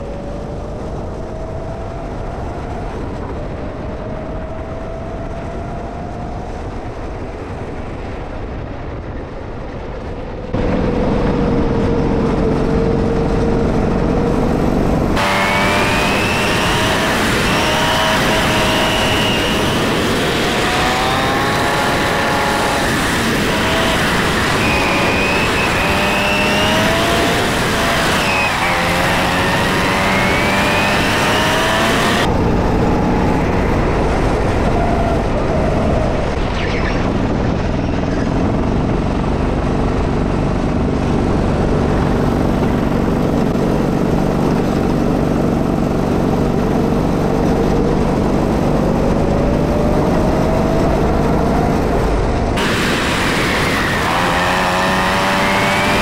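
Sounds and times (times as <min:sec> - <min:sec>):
wind and road noise: 0:00.0 - 0:56.0
go-kart engine revving: 0:10.6 - 0:56.0.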